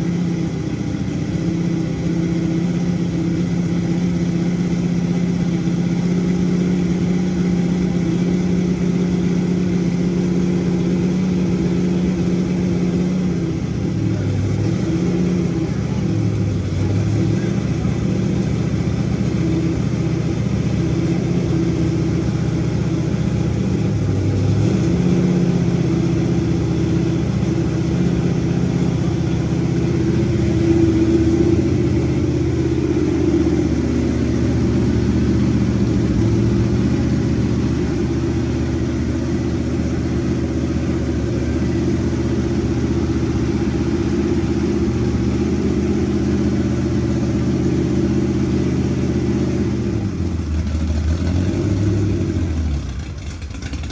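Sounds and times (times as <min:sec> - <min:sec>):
engine running: 0:00.0 - 0:53.9.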